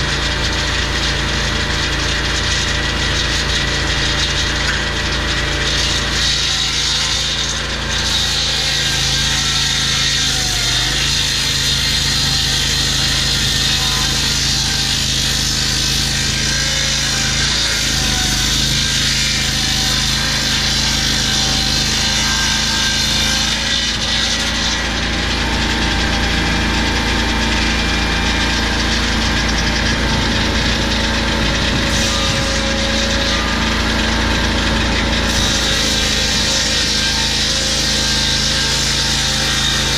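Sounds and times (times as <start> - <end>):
sawmill blade cutting log: 0.0 - 39.9
sawmill engine running: 0.0 - 39.9.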